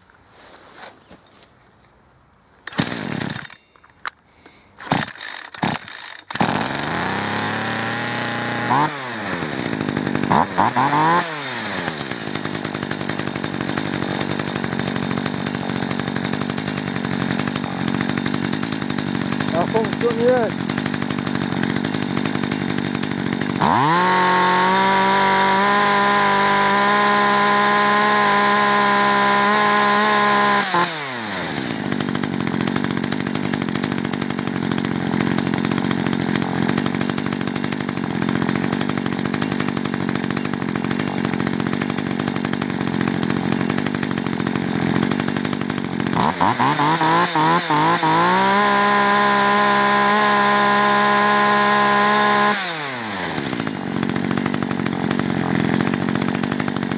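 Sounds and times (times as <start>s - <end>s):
chainsaw engine revving: 2.7s - 3.6s, 4.8s - 56.9s.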